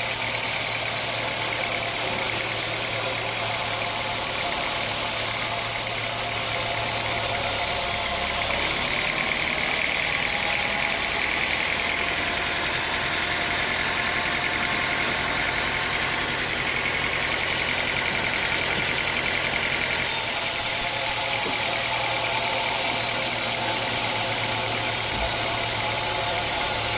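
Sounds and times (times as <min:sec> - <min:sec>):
sawmill machinery running: 0:00.0 - 0:26.9.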